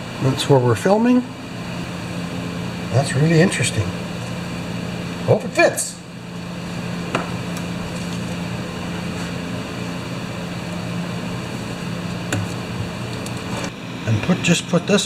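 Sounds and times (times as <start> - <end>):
machine fan hum: 0.0 - 15.0.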